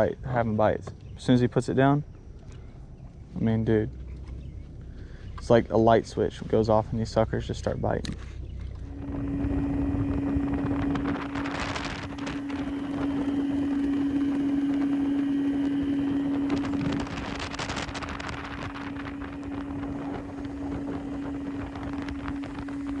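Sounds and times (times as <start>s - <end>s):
boat motor humming: 0.0s - 23.0s
wind noise on microphone: 3.2s - 23.0s.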